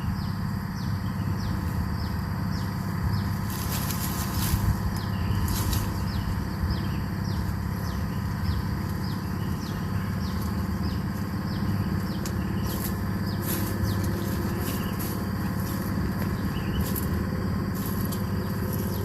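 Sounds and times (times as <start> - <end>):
bird chirping: 0.0 - 19.0
steady low hum: 0.0 - 19.0.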